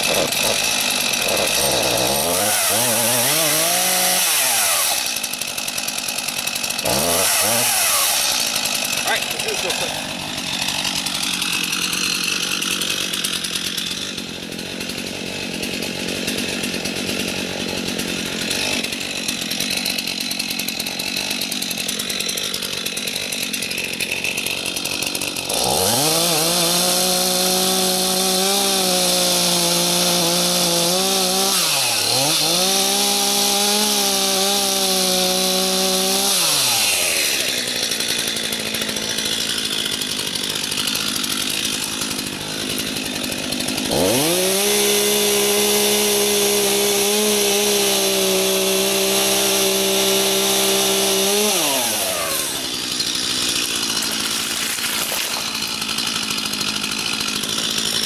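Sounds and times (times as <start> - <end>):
chainsaw cutting into tree: 0.0 - 58.0
chainsaw idling and revving: 0.0 - 58.0.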